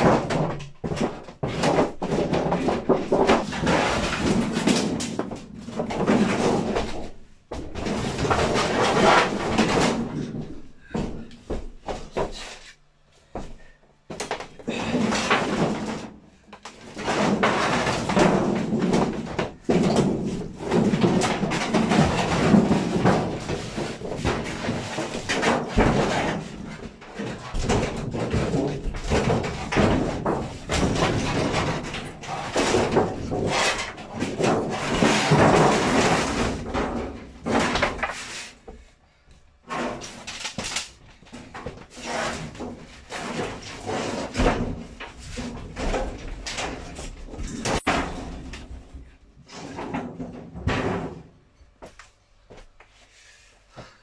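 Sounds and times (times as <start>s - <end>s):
metal sheeting scraping and crumpling: 0.0s - 10.6s, 14.7s - 38.6s, 39.6s - 51.2s.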